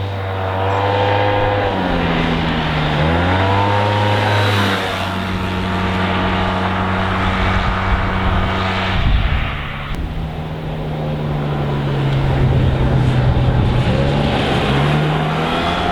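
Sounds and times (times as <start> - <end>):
scooter engine running loud: 0.0 - 9.4, 10.0 - 15.9.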